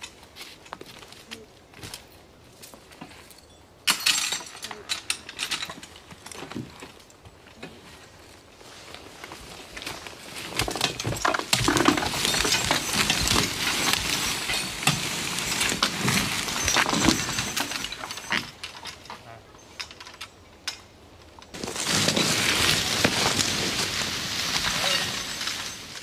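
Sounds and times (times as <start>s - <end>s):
dry leaves and brush crackling: 0.0s - 3.6s, 4.6s - 20.4s, 21.0s - 26.0s.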